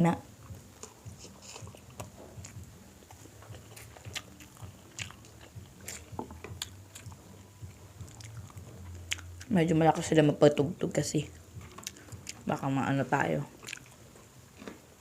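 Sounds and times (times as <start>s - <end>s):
faint low hum: 0.0s - 15.0s
chewing and biting food: 0.3s - 9.6s, 11.3s - 12.7s, 13.5s - 15.0s.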